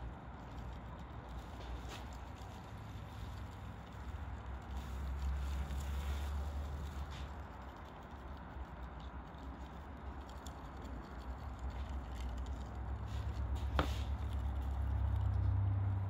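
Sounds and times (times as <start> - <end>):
low steady rumble: 0.0 - 16.0
scratchy rustles of rub sprinkled: 0.0 - 16.0.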